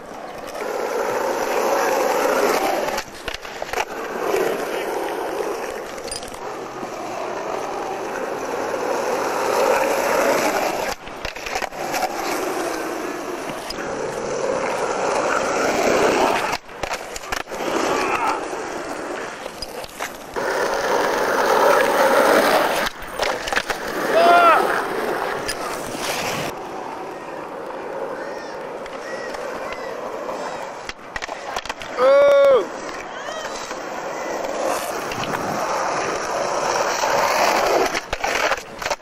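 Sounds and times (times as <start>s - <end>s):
skateboard popping and landing: 0.0s - 39.0s
skateboard wheels rolling on asphalt: 0.0s - 39.0s.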